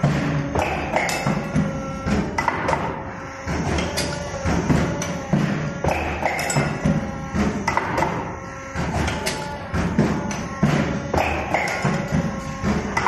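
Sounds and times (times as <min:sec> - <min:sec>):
background music: 0:00.0 - 0:13.0
machine knocks and clunks: 0:00.0 - 0:13.0.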